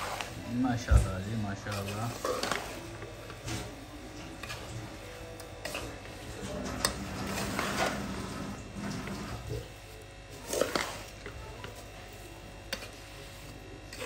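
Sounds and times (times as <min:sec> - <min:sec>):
metal skimmer scraping thick mixture: 0:00.0 - 0:14.0.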